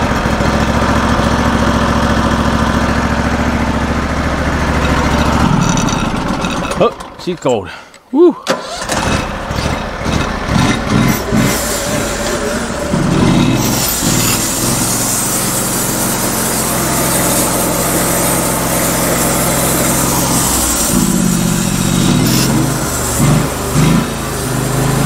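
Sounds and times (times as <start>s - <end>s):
small gas engine sputtering: 0.0s - 25.0s.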